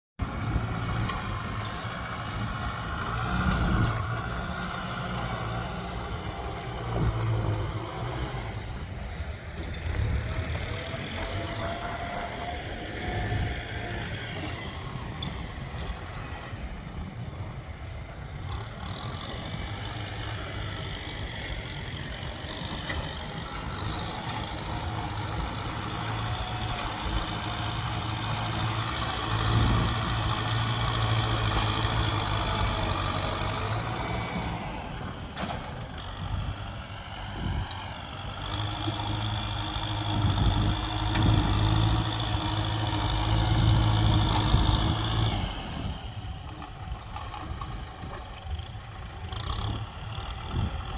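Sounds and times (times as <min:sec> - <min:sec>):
heavy vehicle engines running: 0:00.2 - 0:50.9.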